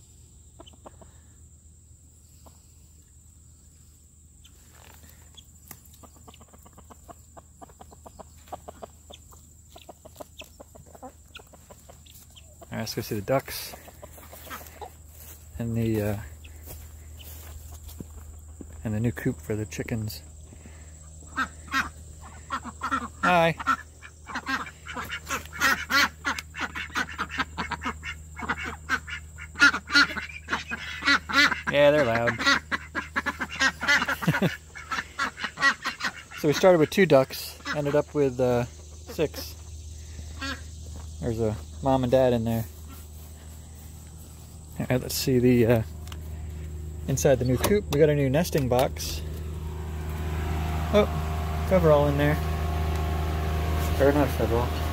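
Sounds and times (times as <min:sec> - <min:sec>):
chickens clucking: 0:00.0 - 0:54.9
ducks quacking: 0:00.6 - 0:01.4, 0:04.4 - 0:54.9.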